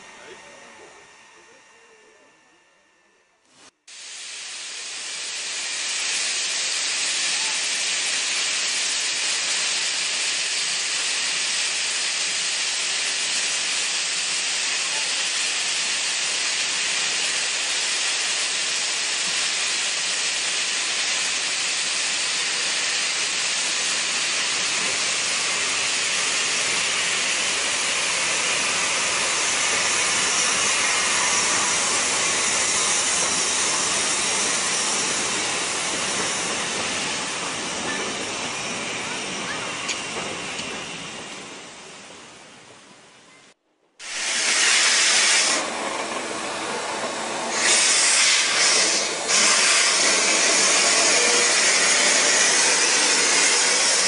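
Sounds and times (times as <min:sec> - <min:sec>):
steam locomotive hissing steam: 0:00.0 - 0:02.3, 0:03.9 - 0:42.9, 0:44.0 - 0:54.0.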